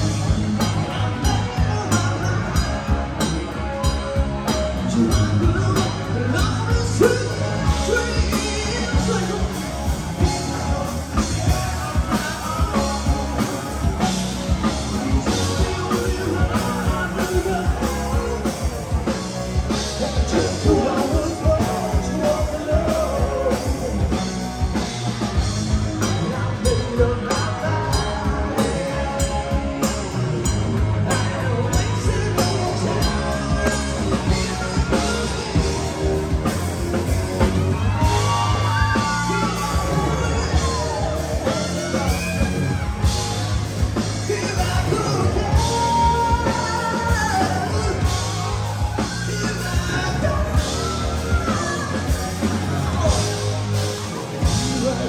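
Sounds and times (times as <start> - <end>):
drums: 0.0 - 55.0
guitar: 0.0 - 55.0
person singing: 0.0 - 55.0
rock band playing: 0.0 - 55.0.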